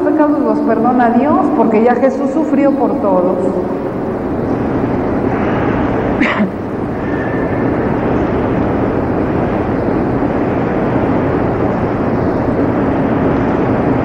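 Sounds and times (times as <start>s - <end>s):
recording hiss and rumble: 0.0s - 14.0s.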